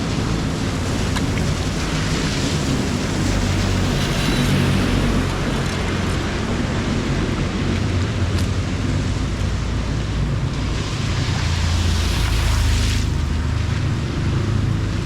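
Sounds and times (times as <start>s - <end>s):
heavy rain: 0.0s - 15.0s
running floodwater: 0.0s - 15.0s
wind rumbling on microphone: 0.0s - 15.0s.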